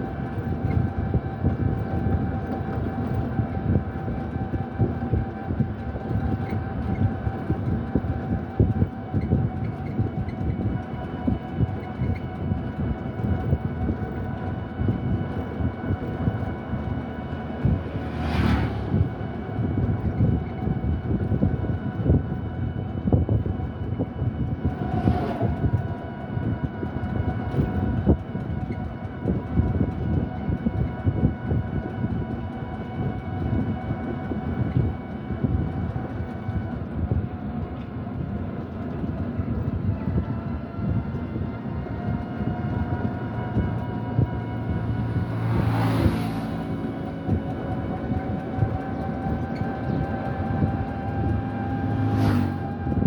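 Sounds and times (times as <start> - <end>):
vehicle rumble: 0.0 - 53.0.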